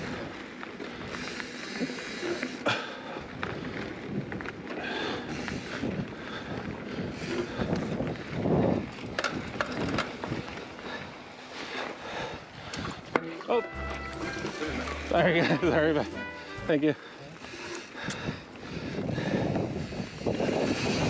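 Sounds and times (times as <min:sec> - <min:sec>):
bike clicks and rattles: 0:00.0 - 0:15.3, 0:17.2 - 0:21.0
bike tyre and wind noise: 0:00.0 - 0:16.0, 0:16.7 - 0:21.0.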